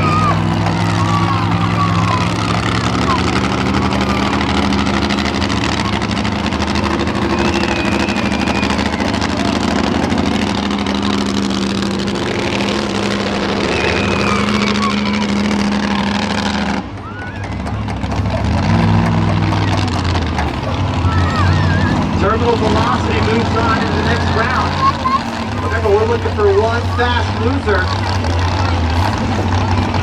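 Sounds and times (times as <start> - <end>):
low engine note: 0.0 - 30.0
monster truck engines revving: 0.0 - 30.0.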